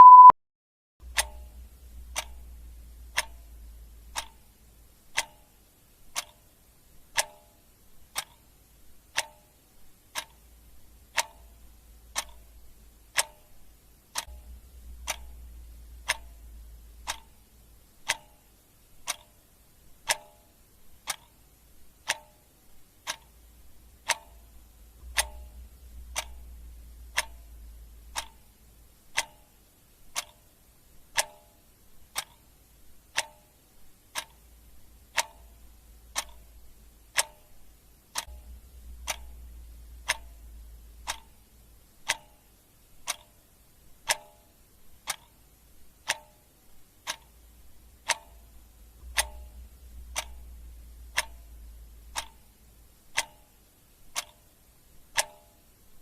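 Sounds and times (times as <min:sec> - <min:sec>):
clock ticking: 0:01.0 - 0:56.0.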